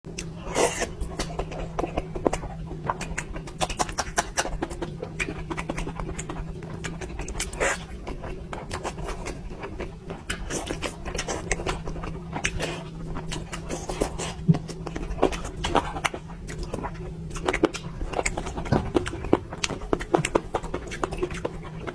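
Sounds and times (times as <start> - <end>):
person chewing and lip smacking: 0.1 - 21.9
steady low hum: 0.1 - 21.9.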